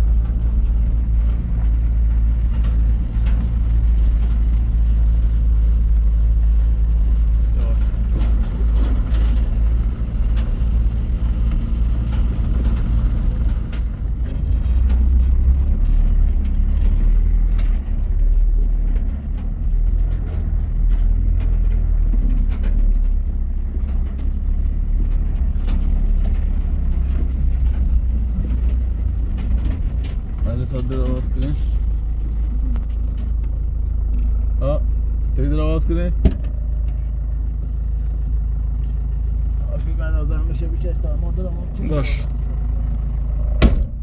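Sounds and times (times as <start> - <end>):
light rattles and clicks: 0.0 - 44.0
vehicle engine running: 0.0 - 44.0.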